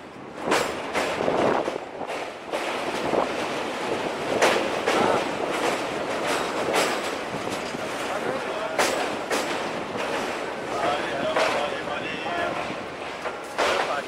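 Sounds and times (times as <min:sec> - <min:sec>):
train rumbling: 0:00.0 - 0:14.0
wheels clacking over rail joints: 0:00.0 - 0:14.0.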